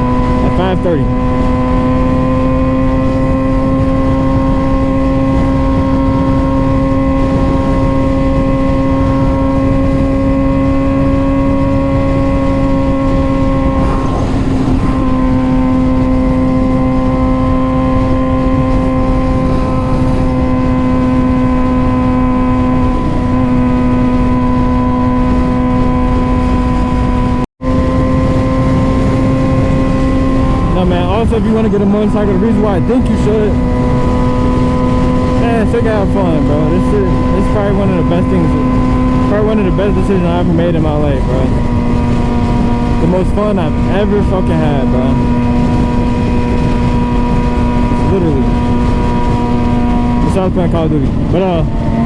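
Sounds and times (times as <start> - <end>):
motorcycle engine cruising: 0.0 - 52.0.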